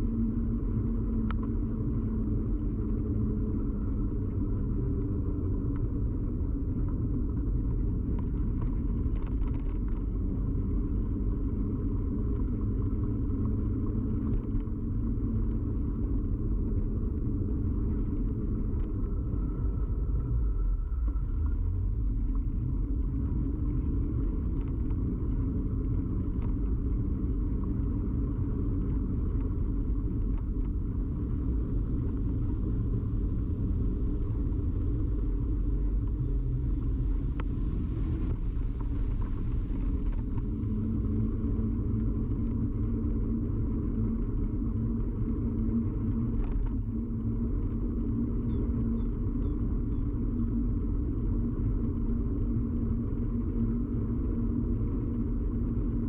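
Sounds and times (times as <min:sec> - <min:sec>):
bicycle ride rumble: 0:00.0 - 0:56.0
steady hum: 0:00.0 - 0:56.0.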